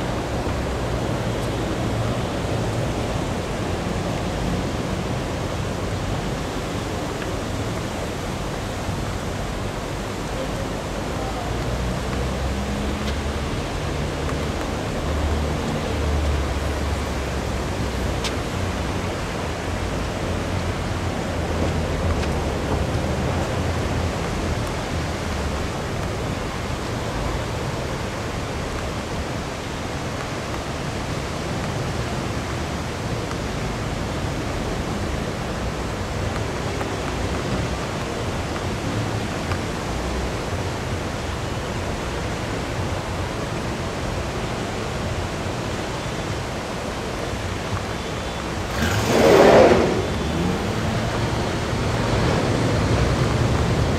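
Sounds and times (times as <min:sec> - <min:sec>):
rushing floodwater: 0:00.0 - 0:53.9.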